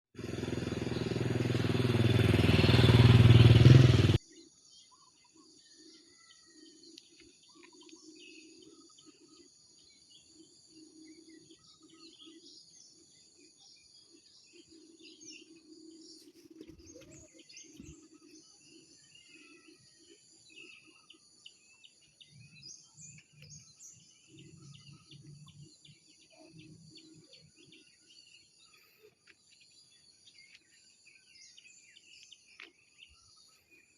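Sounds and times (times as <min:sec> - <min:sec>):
bird chirps: 0:04.3 - 0:33.9.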